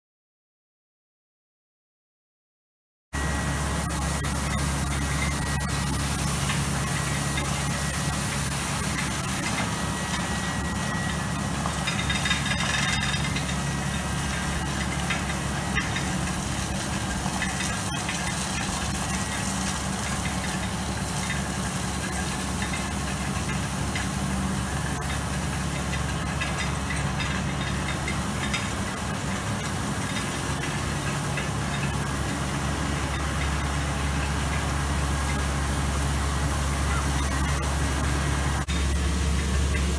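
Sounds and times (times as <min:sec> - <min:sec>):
diesel engine humming: 0:03.2 - 0:39.9.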